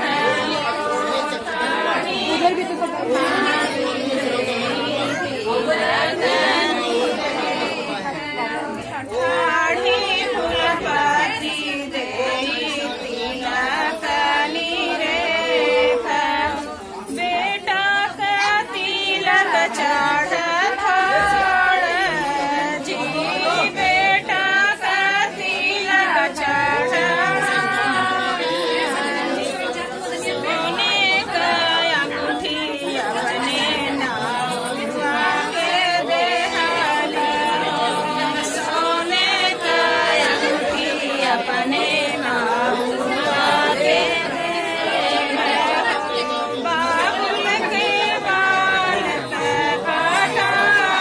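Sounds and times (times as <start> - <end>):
women singing folk song: 0.0 - 51.0.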